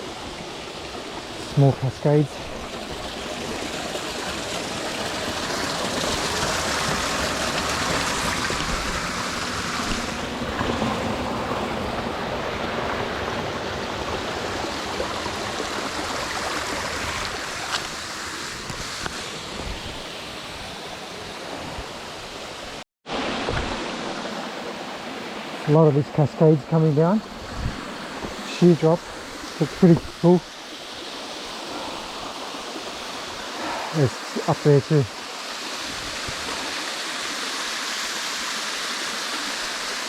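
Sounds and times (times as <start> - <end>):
water rushing over rocks: 0.0 - 40.0.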